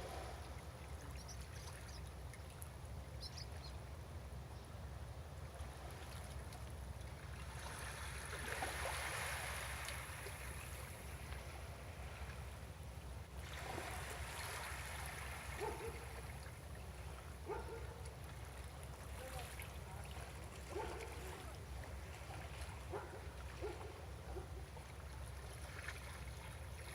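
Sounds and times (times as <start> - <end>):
water lapping against breakwater: 0.0 - 2.8, 5.5 - 12.6, 13.3 - 26.9.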